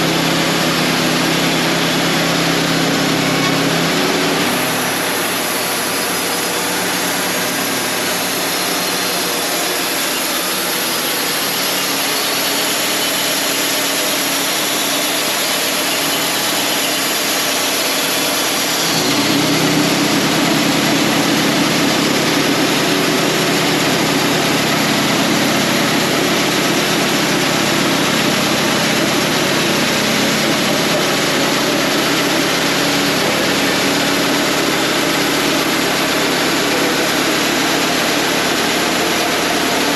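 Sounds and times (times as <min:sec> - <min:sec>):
bandsaw mill engine running: 0:00.0 - 0:39.9.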